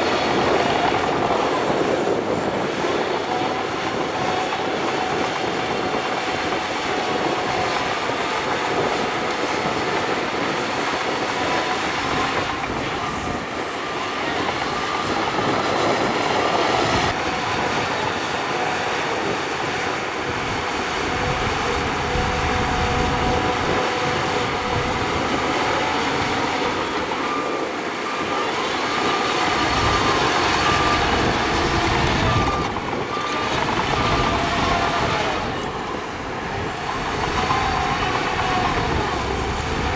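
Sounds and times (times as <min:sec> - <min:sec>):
diesel engine under load: 0:00.0 - 0:39.9
high squeal from tracks: 0:00.0 - 0:39.9
steel tracks grinding: 0:00.0 - 0:39.9.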